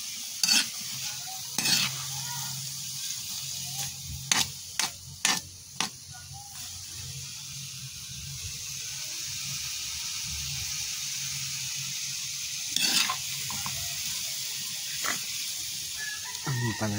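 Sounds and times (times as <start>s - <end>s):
vegetables sizzling in hot oil: 0.0s - 16.9s.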